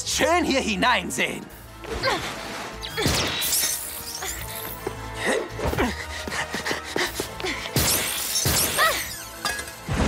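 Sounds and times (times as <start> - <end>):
dramatic background music: 0.0 - 10.0.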